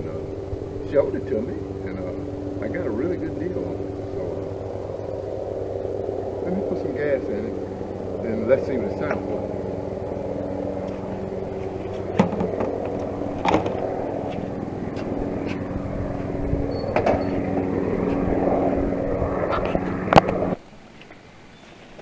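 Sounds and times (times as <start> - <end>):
engine idling: 0.0 - 20.6.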